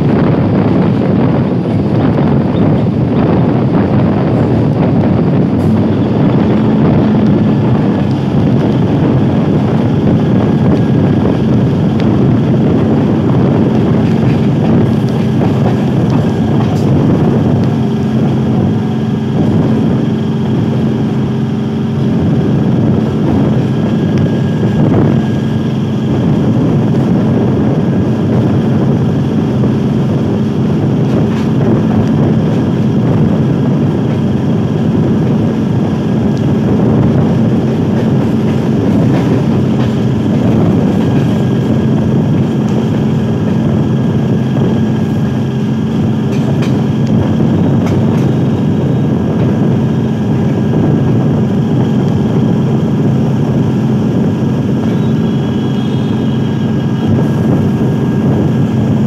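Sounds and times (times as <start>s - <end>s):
steady low hum: 0.0s - 59.0s
train wheel and rail noise: 0.0s - 59.0s
wind buffeting microphone: 0.0s - 59.0s.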